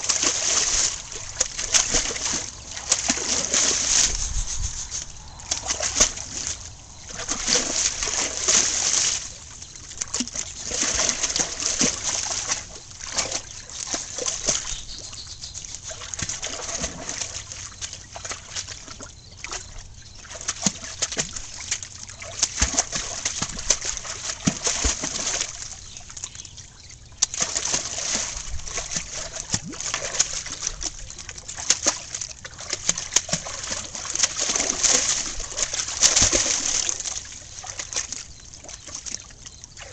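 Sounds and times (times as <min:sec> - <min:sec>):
dog splashing in water: 0:00.0 - 0:26.3, 0:27.2 - 0:39.9.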